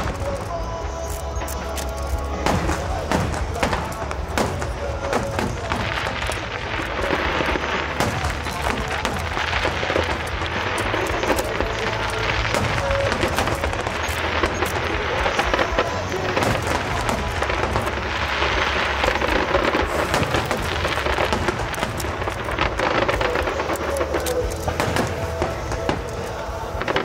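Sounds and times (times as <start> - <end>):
fireworks crackling and popping: 0.0 - 27.0.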